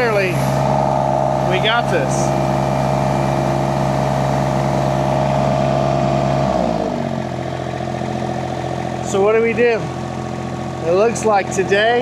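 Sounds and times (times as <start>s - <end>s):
small loader engine running: 0.0s - 12.0s.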